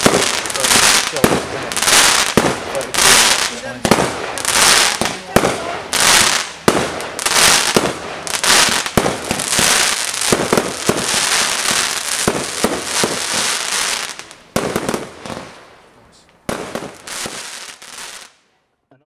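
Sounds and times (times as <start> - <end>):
firework bangs: 0.0 - 15.7, 16.4 - 18.4.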